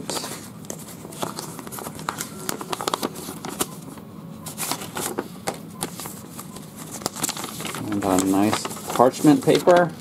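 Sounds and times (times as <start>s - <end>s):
paper rustling and crackling: 0.1s - 3.8s, 4.4s - 10.0s.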